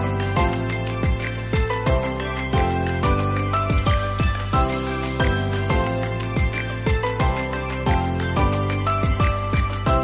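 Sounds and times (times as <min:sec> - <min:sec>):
upbeat music with steady beat: 0:00.0 - 0:10.0.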